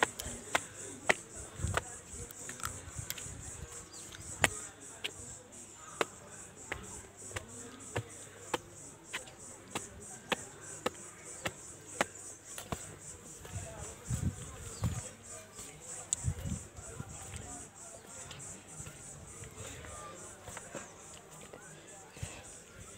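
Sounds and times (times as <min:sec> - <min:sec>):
footsteps on concrete steps: 0:00.0 - 0:22.9
insects buzzing: 0:00.0 - 0:22.9.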